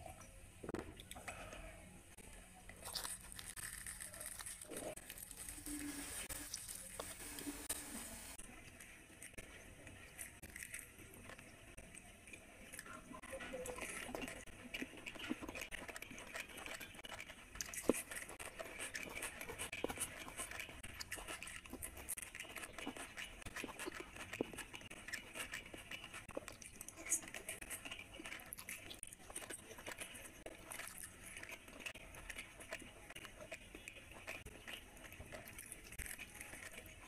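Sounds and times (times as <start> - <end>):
person chewing: 0.7 - 37.0.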